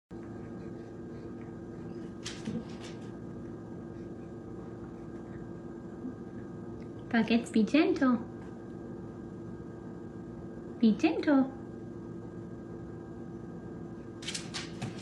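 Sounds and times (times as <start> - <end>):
steady motor hum: 0.1 - 15.0.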